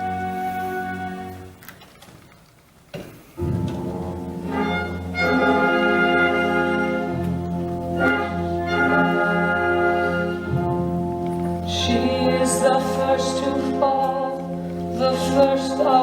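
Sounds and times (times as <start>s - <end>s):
orchestral sustained chords: 0.0s - 1.6s, 3.4s - 16.0s.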